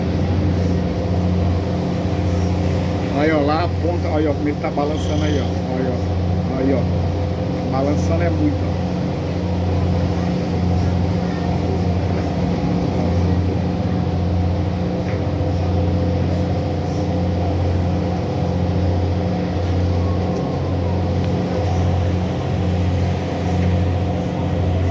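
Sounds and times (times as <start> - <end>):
boat engine humming: 0.0 - 24.9.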